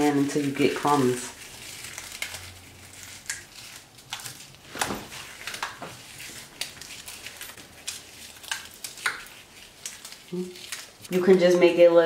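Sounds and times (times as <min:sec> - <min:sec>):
cookies crushed by hand: 0:00.0 - 0:11.4.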